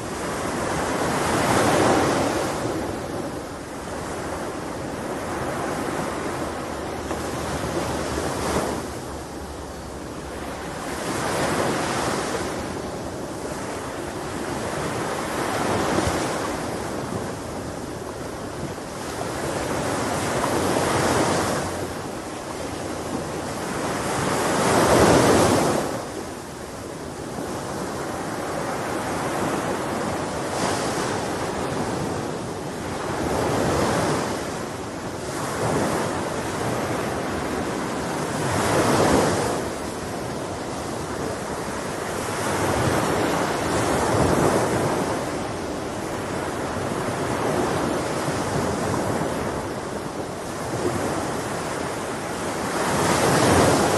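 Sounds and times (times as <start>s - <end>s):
sea waves washing onto shore: 0.0s - 53.9s.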